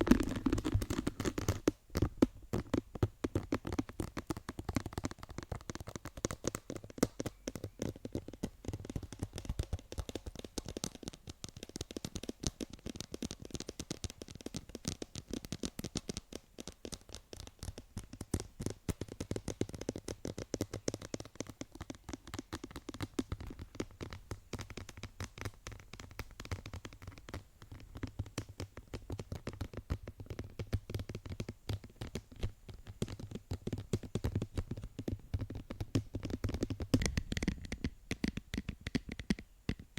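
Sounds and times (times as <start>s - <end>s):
fingertips tapping and scratching: 0.0s - 39.9s.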